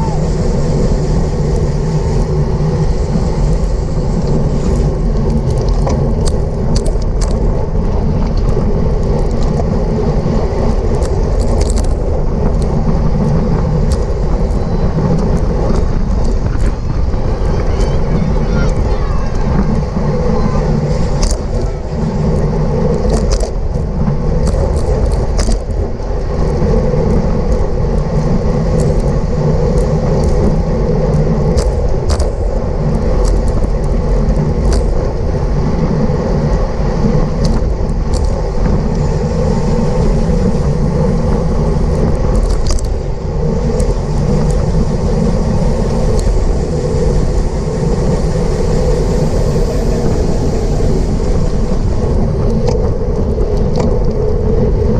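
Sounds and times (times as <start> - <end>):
wind and road noise: 0.0 - 54.9.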